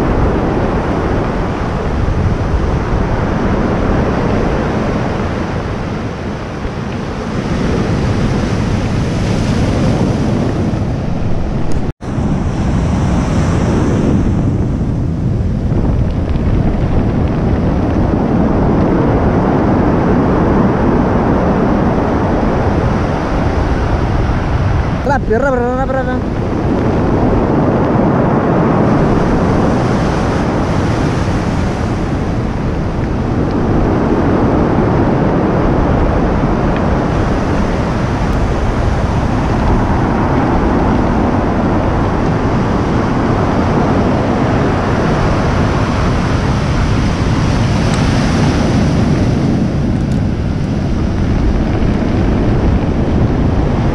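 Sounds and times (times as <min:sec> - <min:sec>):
surf breaking on a cobble beach: 0:00.0 - 0:53.9
wind buffeting the microphone: 0:00.0 - 0:53.9.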